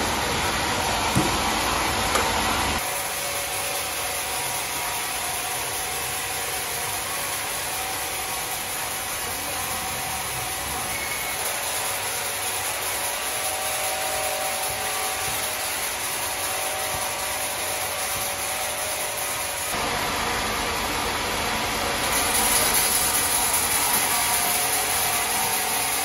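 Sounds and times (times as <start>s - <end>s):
saw cutting wood: 0.0s - 20.4s, 21.0s - 26.0s.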